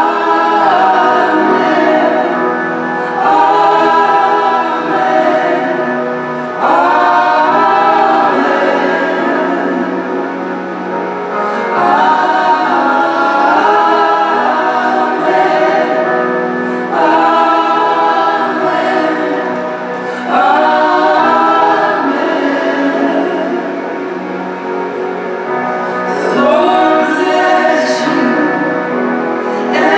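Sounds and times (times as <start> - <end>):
choir singing gospel: 0.0 - 29.9.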